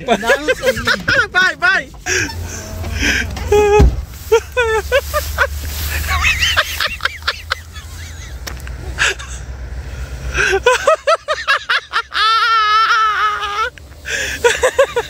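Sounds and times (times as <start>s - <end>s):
person laughing hard: 0.0s - 1.4s, 2.0s - 9.5s, 10.3s - 15.0s
low engine rumble: 0.0s - 15.0s.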